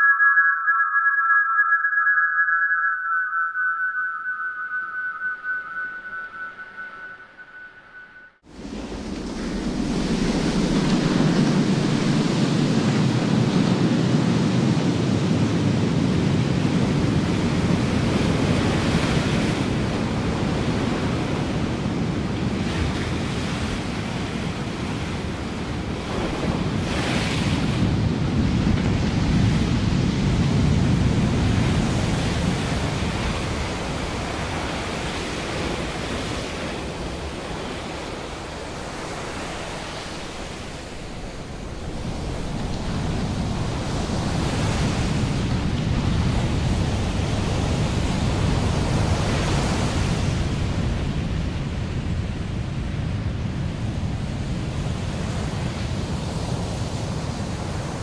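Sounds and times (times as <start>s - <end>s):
ocean waves on beach: 8.4s - 58.0s.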